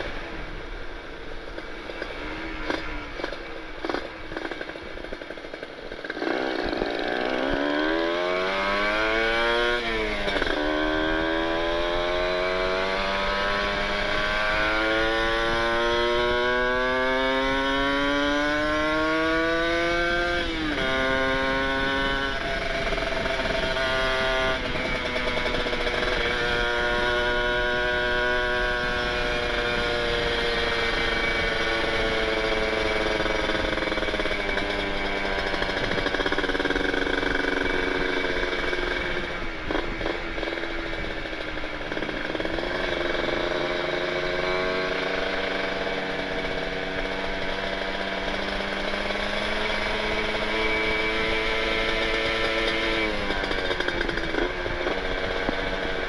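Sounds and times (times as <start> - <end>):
two-stroke motorcycle engine: 0.0 - 56.0.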